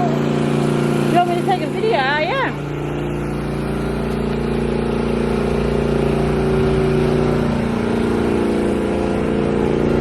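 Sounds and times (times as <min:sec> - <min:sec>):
large engine idling: 0:00.0 - 0:10.0.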